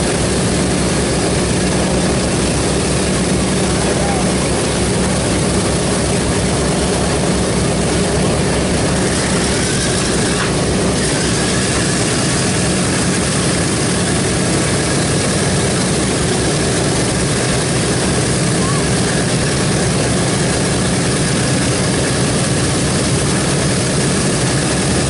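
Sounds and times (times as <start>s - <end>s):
propeller aircraft engines droning: 0.0s - 25.0s.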